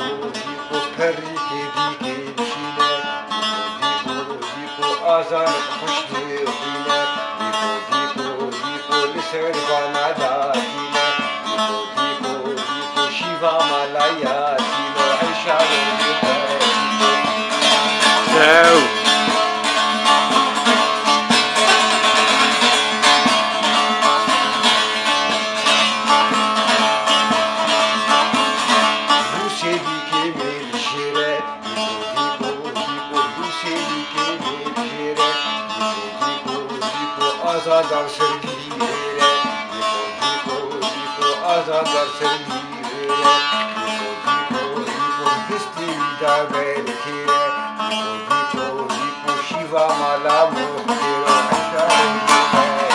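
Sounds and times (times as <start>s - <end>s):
saz strummed rapidly: 0.0s - 52.9s.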